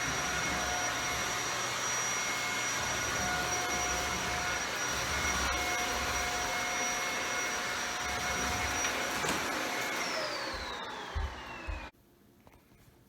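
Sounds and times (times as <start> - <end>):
vacuum cleaner running: 0.0 - 11.9.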